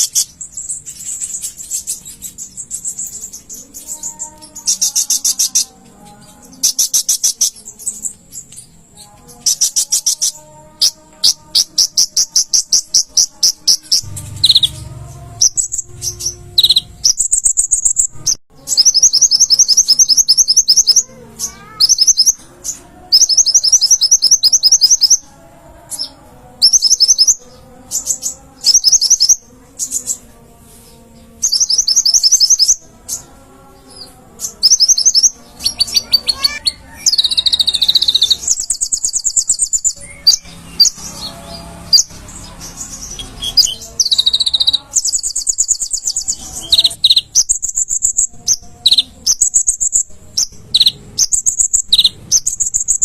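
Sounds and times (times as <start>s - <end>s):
bird singing rattling trills: 0.0s - 30.3s, 31.1s - 53.0s.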